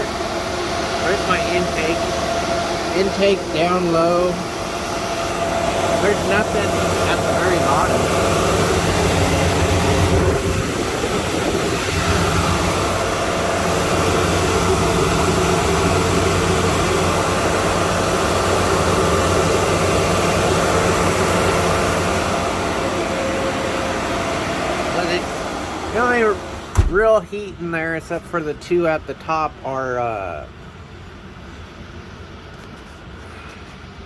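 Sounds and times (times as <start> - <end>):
constant hum tones: 0.0 - 34.0
cooling fans whirring: 0.0 - 34.0.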